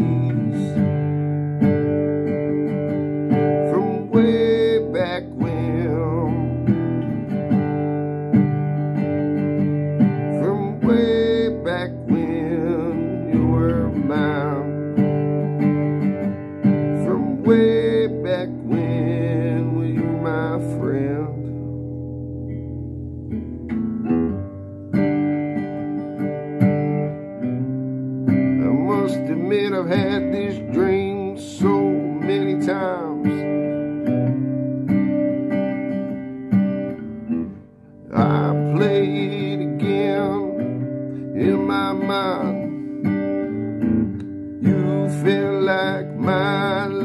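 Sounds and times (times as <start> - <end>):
acoustic guitar country music: 0.0 - 47.0.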